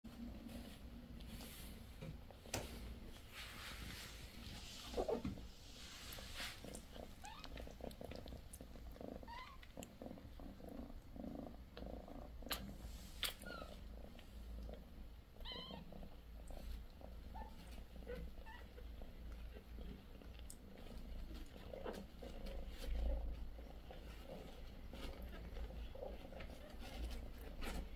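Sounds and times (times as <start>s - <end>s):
cat purring: 0.1s - 27.9s.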